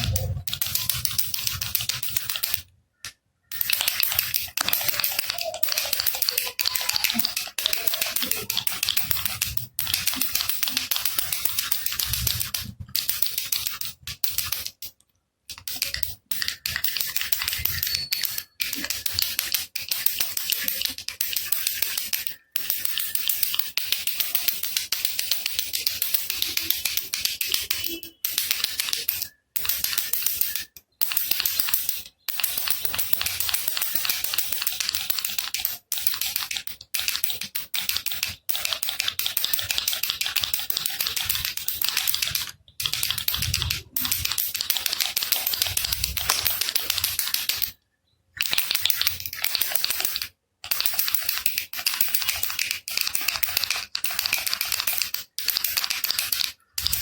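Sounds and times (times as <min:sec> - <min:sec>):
baby rattle shaken: 0:00.0 - 0:02.6, 0:03.5 - 0:14.8, 0:15.5 - 0:47.7, 0:48.4 - 0:57.0.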